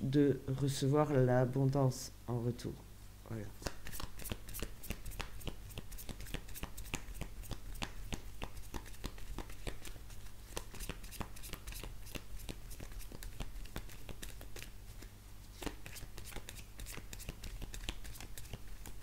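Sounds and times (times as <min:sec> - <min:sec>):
cards being shuffled: 0:03.6 - 0:19.0.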